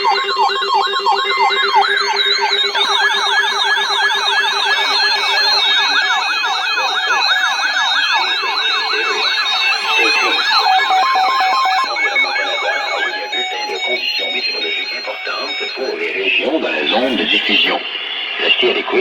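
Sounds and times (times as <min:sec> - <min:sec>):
electronic sirens yelping: 0:00.0 - 0:17.8
steady siren tones: 0:00.0 - 0:18.8.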